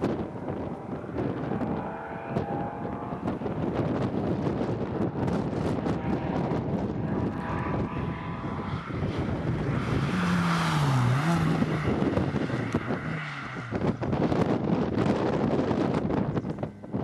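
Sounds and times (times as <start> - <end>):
rally car engine running hard: 0.0 - 17.0
wind and road noise: 0.0 - 17.0.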